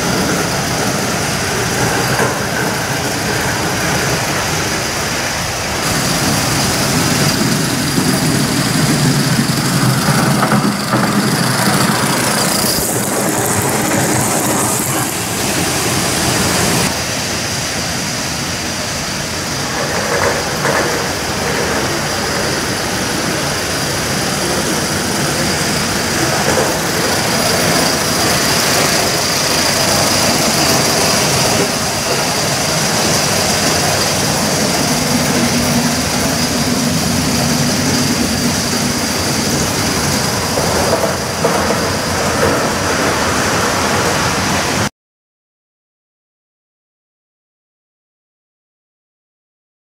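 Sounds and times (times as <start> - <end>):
model trains running: 0.0 - 44.9.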